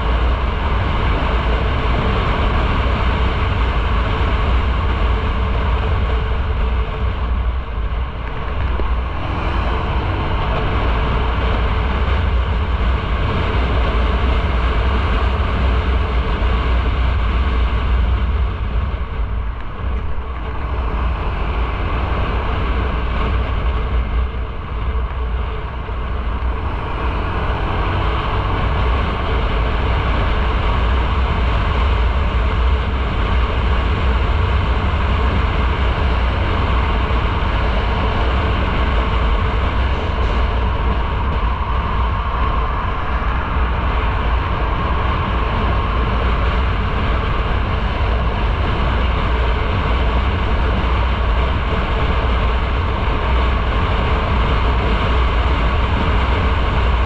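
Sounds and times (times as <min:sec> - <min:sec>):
motorcycle engine and road noise: 0:00.0 - 0:57.0
wind rumble on microphone: 0:00.0 - 0:57.0.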